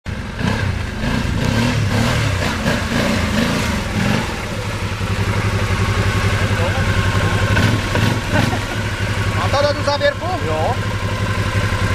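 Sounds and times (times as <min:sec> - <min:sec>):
engine revving and idling: 0:00.1 - 0:11.9.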